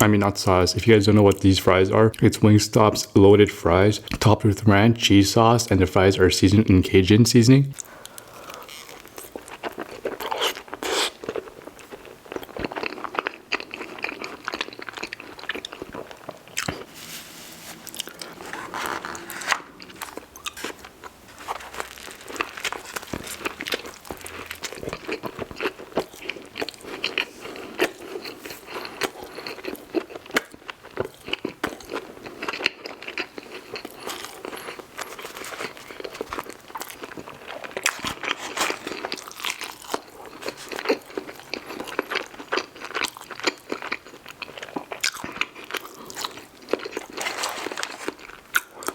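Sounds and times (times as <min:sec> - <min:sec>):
crunching and chewing fries: 0:07.8 - 0:17.0, 0:17.7 - 0:48.9.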